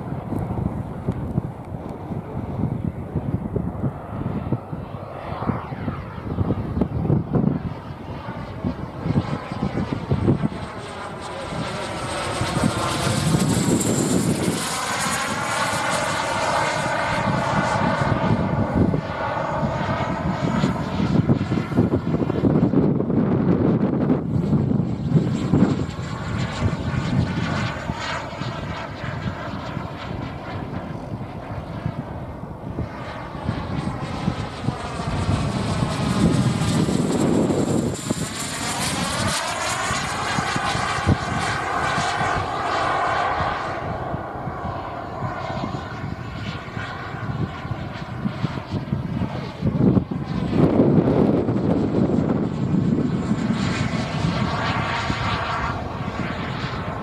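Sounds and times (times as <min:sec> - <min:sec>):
model jet turbine whine: 0:00.0 - 0:57.0.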